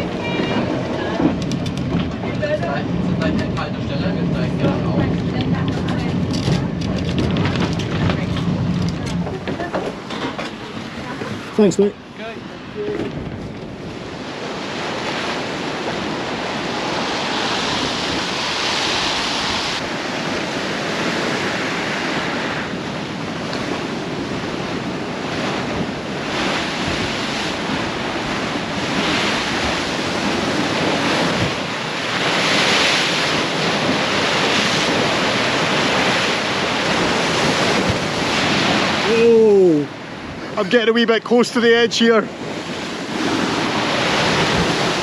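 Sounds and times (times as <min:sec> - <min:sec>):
wind buffeting microphone: 0:00.0 - 0:40.8, 0:41.6 - 0:45.0
sea waves breaking: 0:00.0 - 0:45.0.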